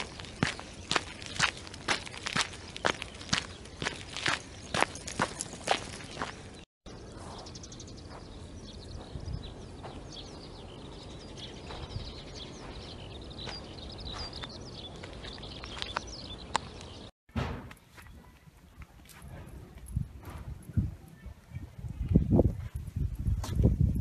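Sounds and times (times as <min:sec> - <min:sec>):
small birds chirping: 0:00.0 - 0:17.1, 0:18.0 - 0:24.0.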